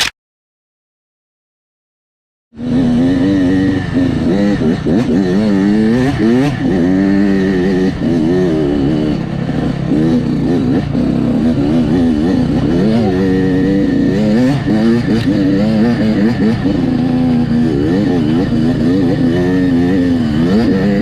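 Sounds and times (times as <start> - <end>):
dirt bike engine revving: 2.6 - 21.0.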